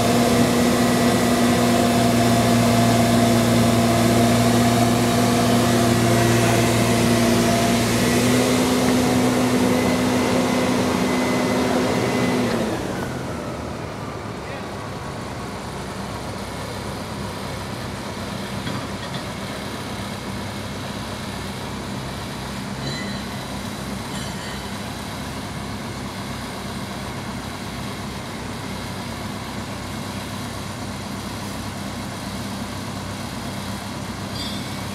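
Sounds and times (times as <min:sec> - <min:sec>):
crane diesel engine running: 0:00.0 - 0:34.9.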